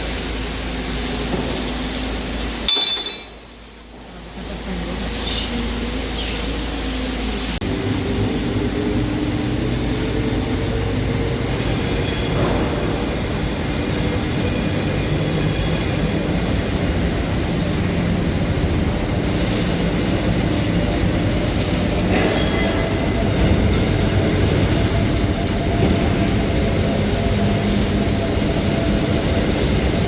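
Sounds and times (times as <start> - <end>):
heavy machinery noise: 0.0 - 30.0.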